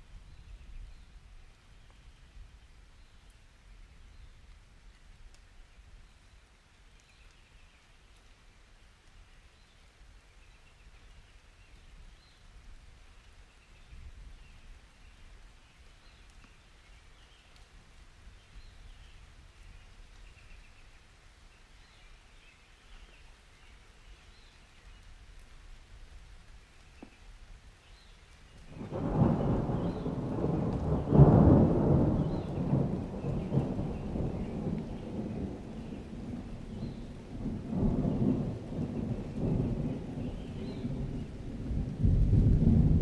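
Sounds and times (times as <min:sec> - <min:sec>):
soft rain hiss: 0:00.0 - 0:43.0.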